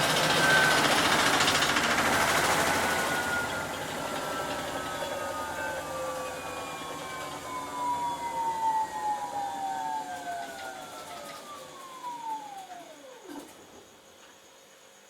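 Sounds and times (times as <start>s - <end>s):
washing machine drum spinning down: 0.0s - 13.8s.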